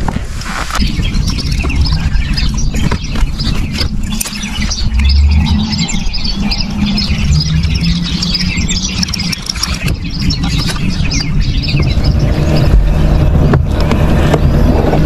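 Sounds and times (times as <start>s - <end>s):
steady low rumble: 0.0s - 15.0s
small birds chirping: 0.7s - 15.0s.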